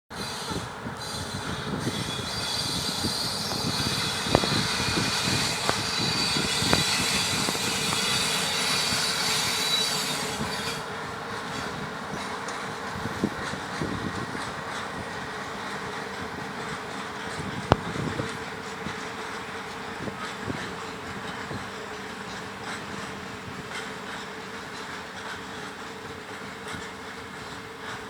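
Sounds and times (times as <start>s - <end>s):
high wheel squeal: 0.1s - 28.0s
train wheels clattering on rails: 0.1s - 28.0s.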